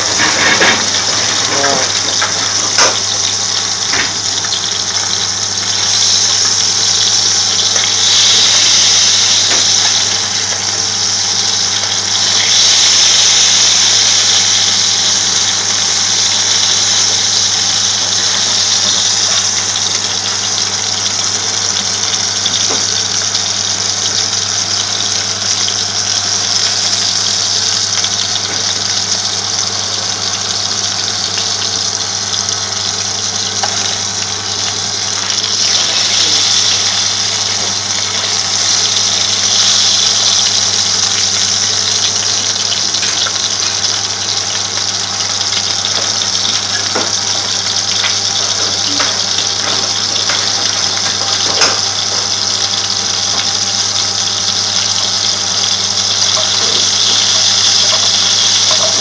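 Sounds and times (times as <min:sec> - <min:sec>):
food frying in hot oil: 0:00.0 - 0:59.0.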